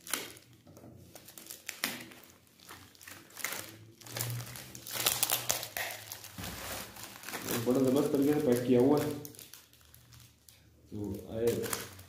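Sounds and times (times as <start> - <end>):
metallic foil crinkling: 0.0 - 12.0.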